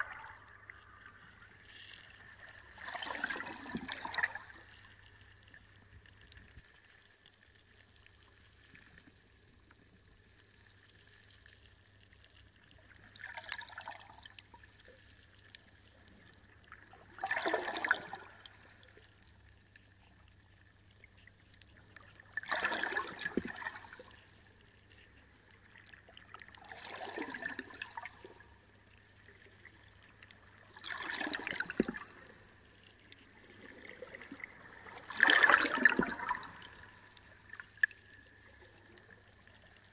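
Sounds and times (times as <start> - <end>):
aquarium water splashing and gurgling: 0.0 - 6.6, 12.7 - 39.9
faint steady hum: 0.0 - 39.9.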